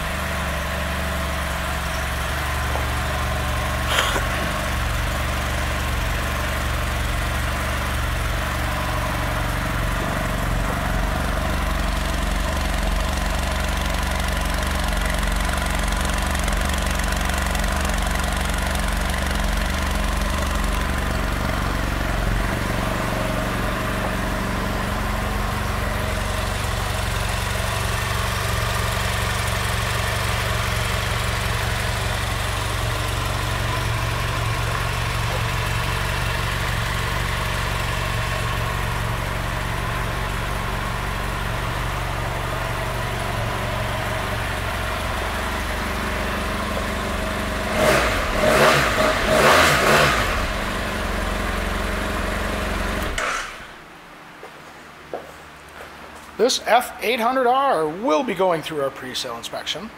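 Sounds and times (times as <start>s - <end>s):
motorcycle engine idling: 0.0s - 53.8s.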